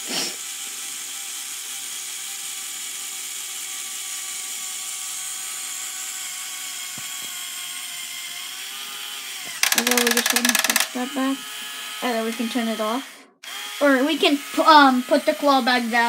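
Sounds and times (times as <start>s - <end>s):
toy electric motor whirring: 0.0s - 16.0s.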